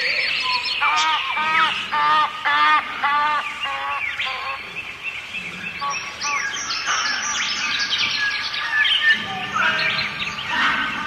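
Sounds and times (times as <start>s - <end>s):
birds chirping and singing: 0.0s - 11.0s.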